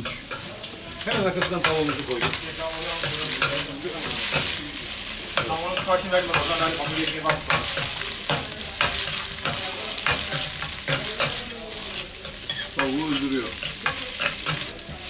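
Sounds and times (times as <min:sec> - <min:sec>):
food sizzling in hot oil: 0:00.0 - 0:15.0
metal spatula scraping wok: 0:00.0 - 0:15.0.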